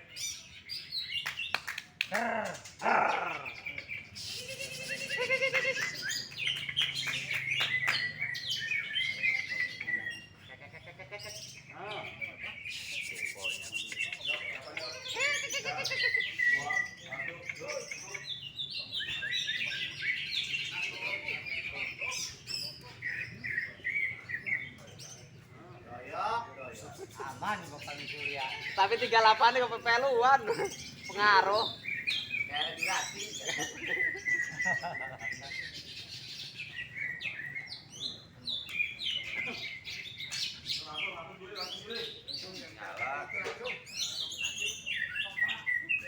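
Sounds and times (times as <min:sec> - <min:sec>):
bird singing: 0:00.0 - 0:46.0.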